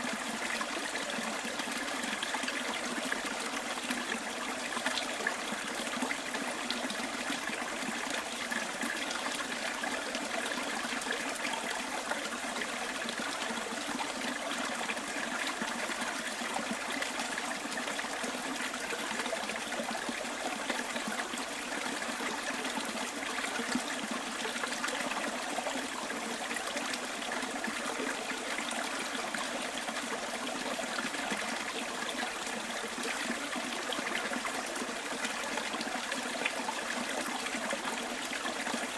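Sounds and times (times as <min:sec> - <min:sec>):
stream trickling and gurgling: 0:00.0 - 0:38.9.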